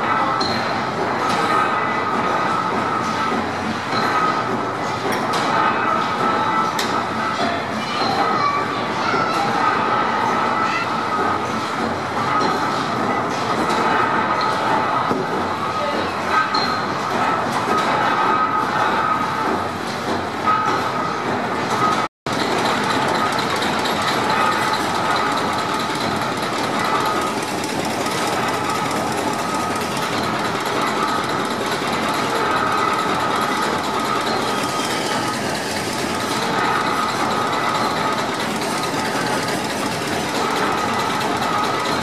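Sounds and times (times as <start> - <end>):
engine and pump clattering: 0.0 - 42.0.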